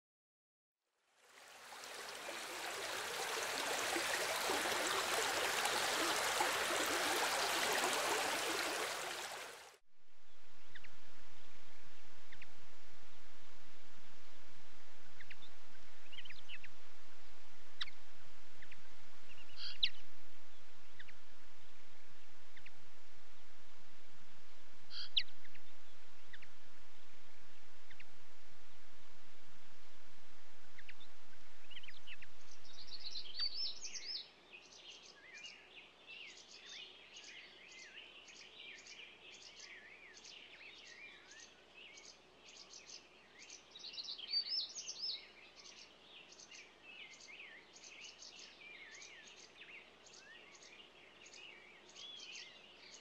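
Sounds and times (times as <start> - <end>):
songbirds chirping: 1.6 - 53.0.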